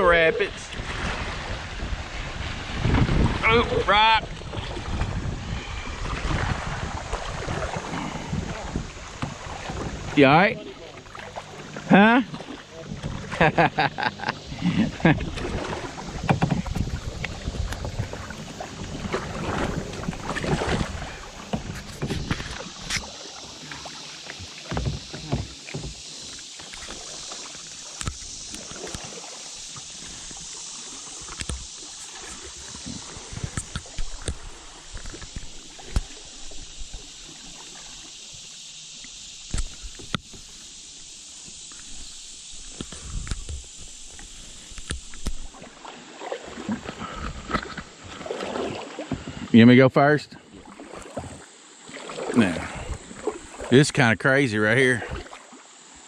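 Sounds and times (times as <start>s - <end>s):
paddle strokes: 0.0s - 49.7s, 50.4s - 56.0s
water rushing and splashing: 0.0s - 56.0s.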